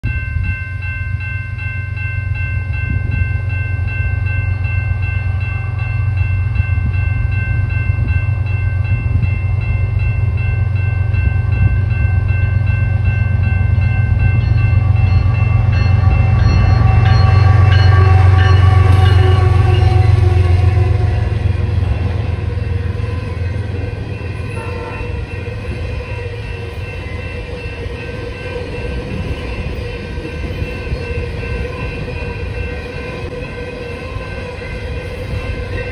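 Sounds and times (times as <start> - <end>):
freight train rumbling: 0.0 - 35.9
steady high tones: 0.1 - 35.9.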